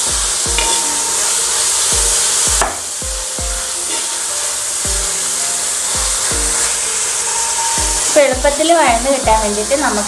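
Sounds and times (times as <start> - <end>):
background music with steady beat: 0.0 - 10.0
vegetables sizzling in hot oil: 0.0 - 10.0.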